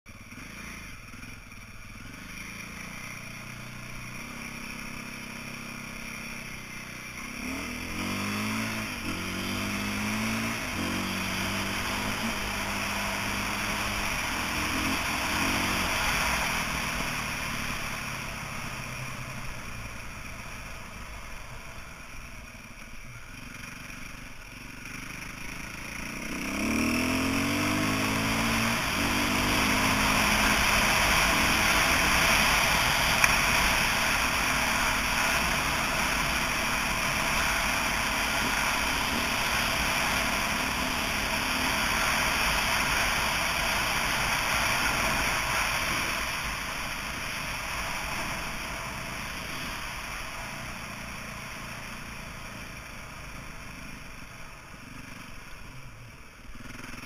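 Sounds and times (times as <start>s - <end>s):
motorcycle engine revving: 0.0s - 57.0s
steady rushing noise: 0.1s - 57.0s.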